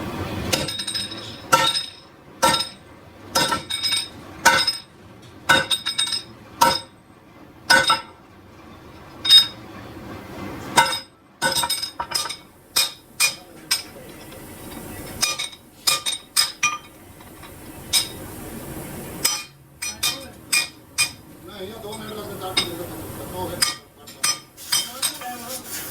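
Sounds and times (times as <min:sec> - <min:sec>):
faint workshop hum: 0:00.0 - 0:25.9.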